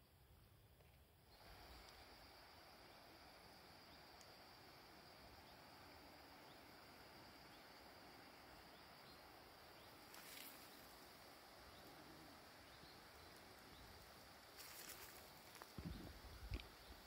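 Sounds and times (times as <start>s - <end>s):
high-pitched hiss: 0.0s - 17.0s
rustle: 0.0s - 17.0s
faint chirps: 1.2s - 17.0s.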